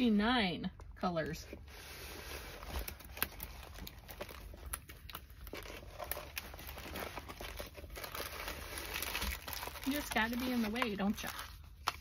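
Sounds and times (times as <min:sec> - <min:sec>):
plastic film crinkling: 0:02.0 - 0:12.0.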